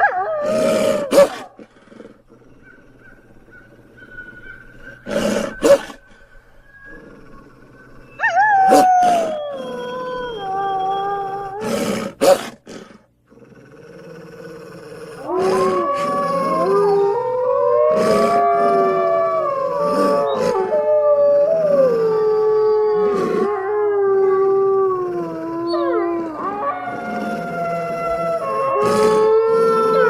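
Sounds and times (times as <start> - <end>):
several wolves howling together: 0.0 - 1.6, 2.2 - 12.3, 14.9 - 30.0
wolf howling: 0.0 - 1.6, 2.6 - 12.4, 14.9 - 30.0.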